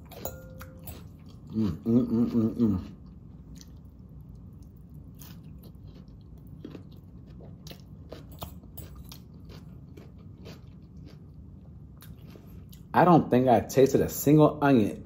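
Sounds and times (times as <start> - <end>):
person chewing crunchy salad: 0.0 - 12.9.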